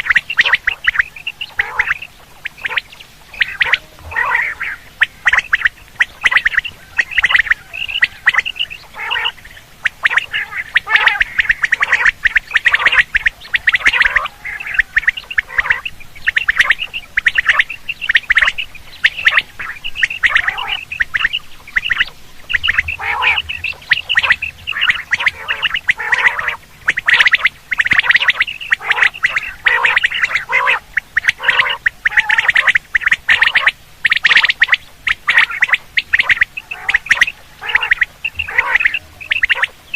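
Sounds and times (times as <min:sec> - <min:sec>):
quail calls: 0:00.0 - 0:39.9.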